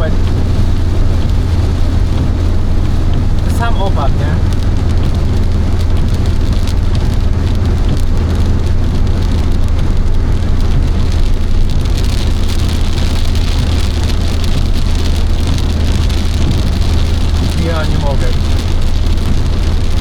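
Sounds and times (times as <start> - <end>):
car engine droning: 0.0 - 20.0
heavy rain on a car roof: 0.0 - 20.0
road noise: 0.0 - 20.0.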